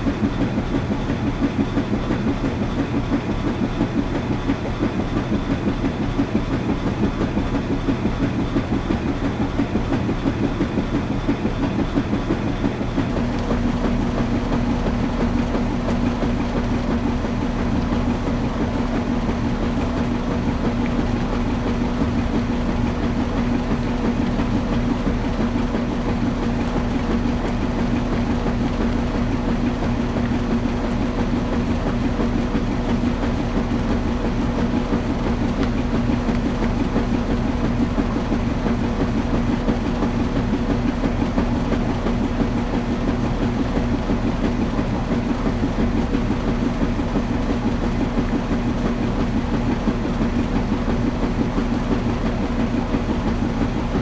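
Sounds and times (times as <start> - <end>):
constant hum: 0.0 - 54.0
washing machine churning: 0.0 - 54.0.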